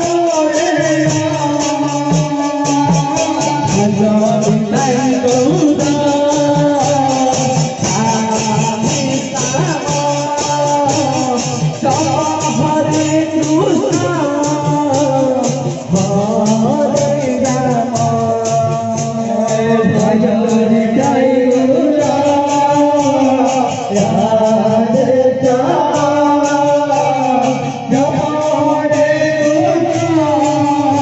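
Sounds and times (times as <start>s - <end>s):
devotional chant singing: 0.0s - 31.0s
percussion beat: 0.0s - 31.0s.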